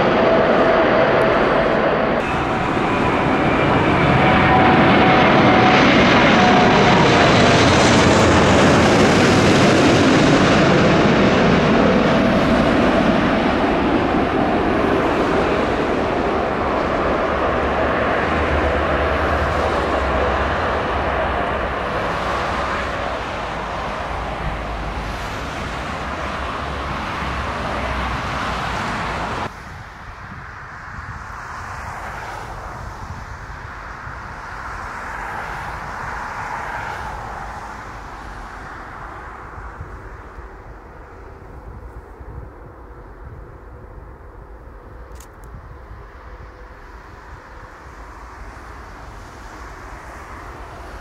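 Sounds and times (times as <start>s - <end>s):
jet engines rumbling: 0.0s - 51.0s.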